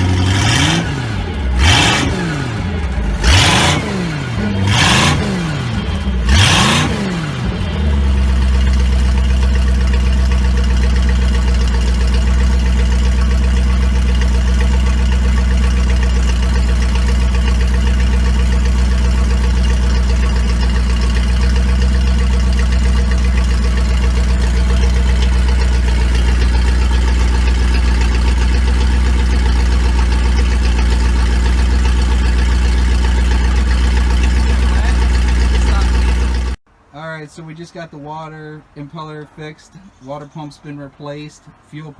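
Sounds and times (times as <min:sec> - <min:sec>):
boat engine revving and idling: 0:00.0 - 0:36.6.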